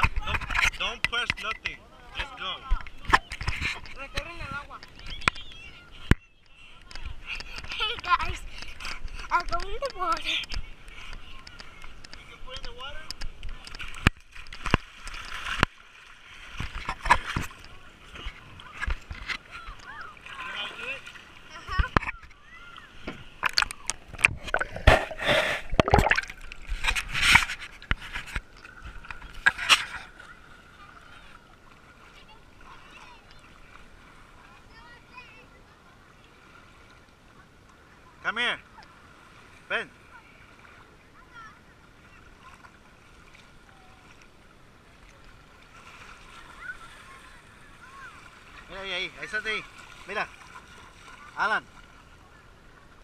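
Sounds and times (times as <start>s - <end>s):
water sloshing and splashing: 0.0s - 53.0s
wind: 0.0s - 53.0s.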